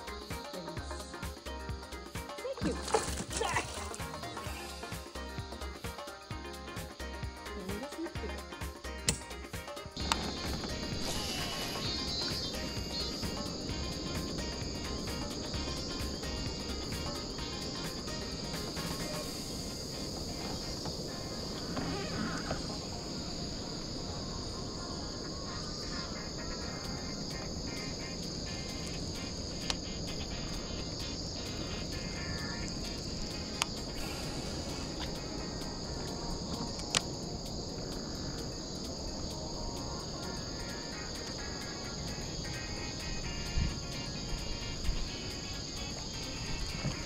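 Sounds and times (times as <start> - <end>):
music with steady beat: 0.0 - 21.8, 25.8 - 47.0
insects shrilling: 0.0 - 47.0.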